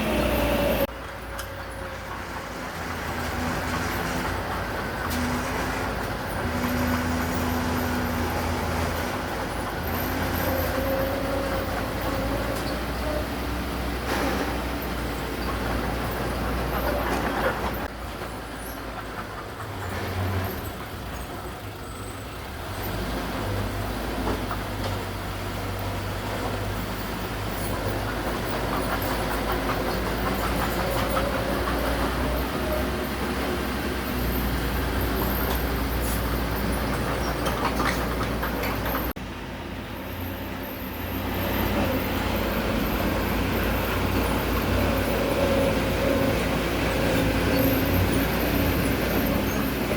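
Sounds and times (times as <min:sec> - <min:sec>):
heavy diesel engine drone: 0:00.0 - 0:20.5, 0:21.7 - 0:49.9
machinery clanking and rattling: 0:00.0 - 0:22.4, 0:23.2 - 0:39.2, 0:39.9 - 0:49.9.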